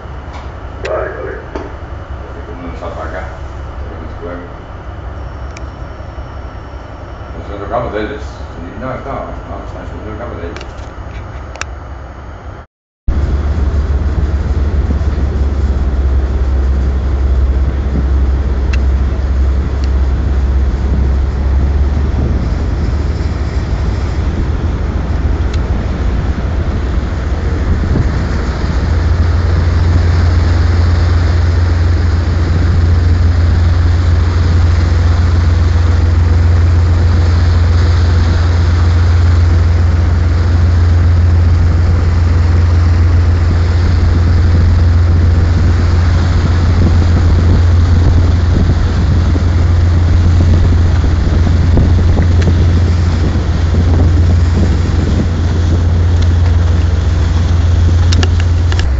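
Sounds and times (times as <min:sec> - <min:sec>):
diesel engine drone: 0:00.0 - 0:58.9.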